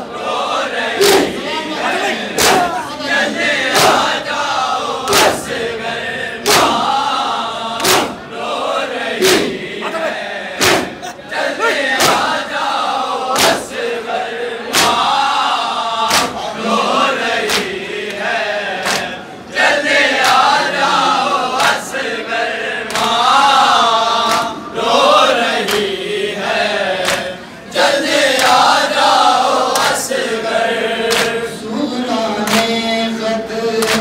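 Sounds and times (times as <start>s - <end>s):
men chanting in unison: 0.0s - 34.0s.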